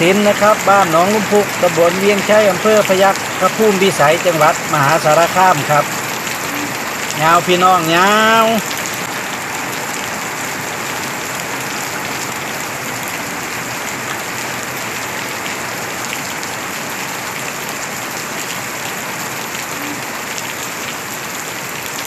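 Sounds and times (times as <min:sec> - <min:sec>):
heavy rain splashing on ground: 0:00.0 - 0:22.0.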